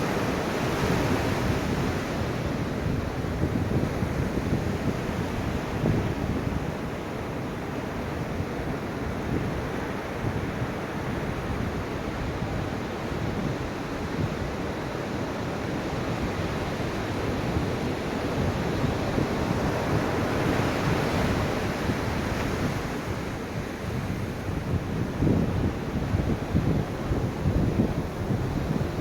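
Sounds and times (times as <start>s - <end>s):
ocean waves washing onto shore: 0.0s - 29.0s.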